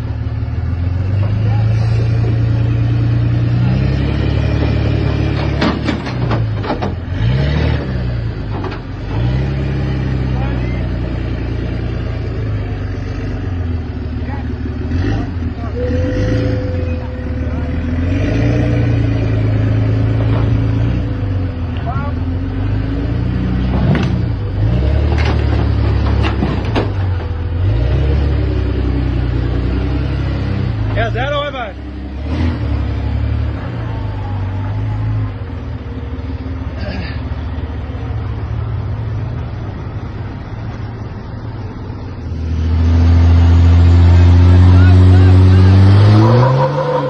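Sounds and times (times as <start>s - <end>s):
engine running at low speed: 0.0s - 46.4s.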